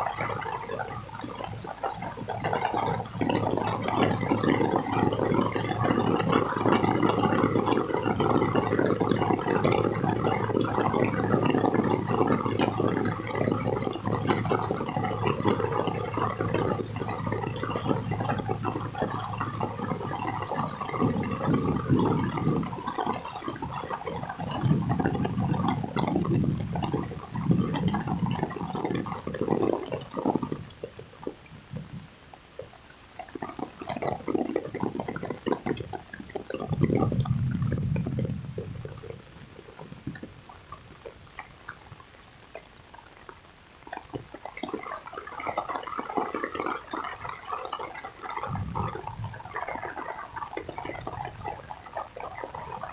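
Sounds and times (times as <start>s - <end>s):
heavy rain falling: 0.0s - 32.7s, 33.3s - 44.9s, 45.6s - 52.9s.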